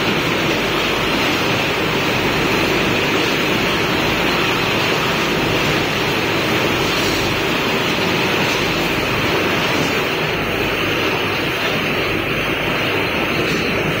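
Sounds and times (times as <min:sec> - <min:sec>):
welding machine running: 0:00.0 - 0:14.0.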